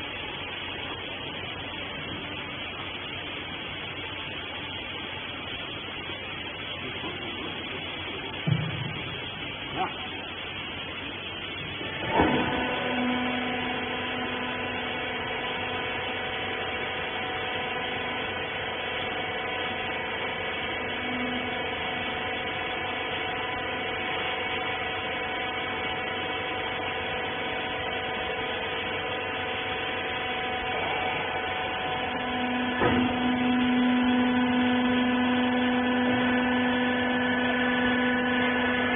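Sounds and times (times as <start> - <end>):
machine motor hum and whine: 0.0 - 38.9.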